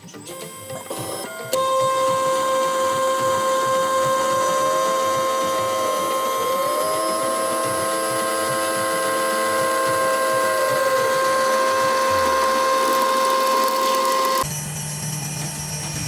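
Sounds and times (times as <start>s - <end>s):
power tool motor whining: 0.0s - 14.6s.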